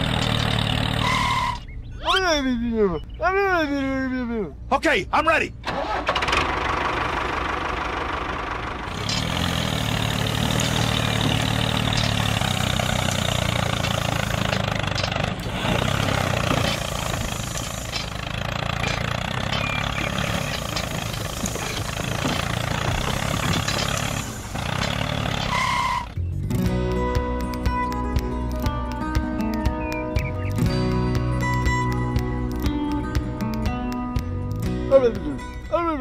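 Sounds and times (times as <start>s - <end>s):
tractor engine running: 0.0s - 3.4s, 5.5s - 35.8s.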